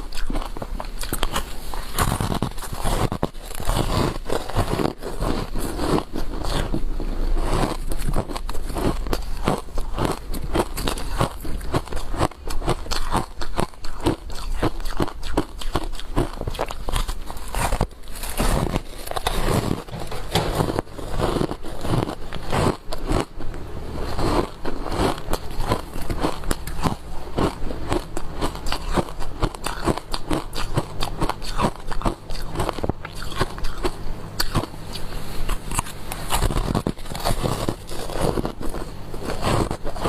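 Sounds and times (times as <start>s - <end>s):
crunchy chewing of ice: 0.0s - 40.0s.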